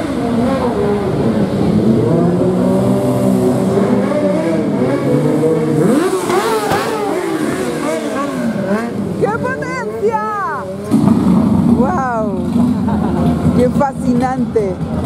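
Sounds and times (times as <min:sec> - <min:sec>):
engine revving up sharply: 0:00.0 - 0:15.0
motorcycle engines revving: 0:00.0 - 0:15.0.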